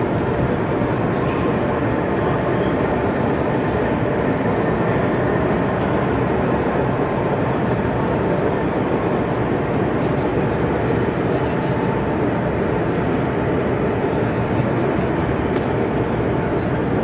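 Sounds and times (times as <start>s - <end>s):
busy exhibition hall noise: 0.0s - 17.0s.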